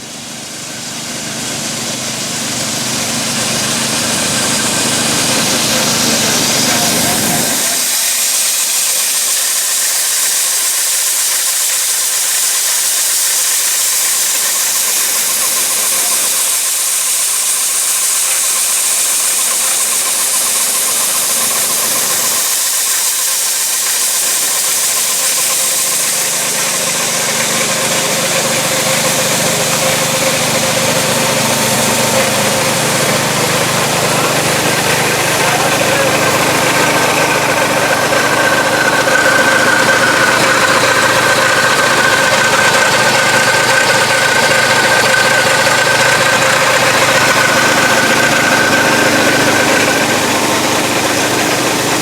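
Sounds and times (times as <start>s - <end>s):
corn-shelling machinery running: 0.0s - 52.0s.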